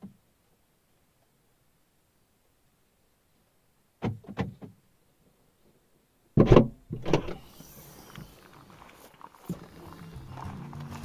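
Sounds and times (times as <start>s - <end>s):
outdoor ambience: 0.0s - 11.0s.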